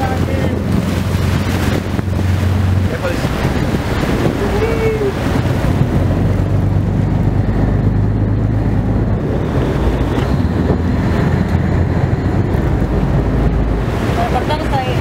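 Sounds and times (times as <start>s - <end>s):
boat engine humming: 0.0s - 15.0s
wind noise on microphone: 0.0s - 15.0s.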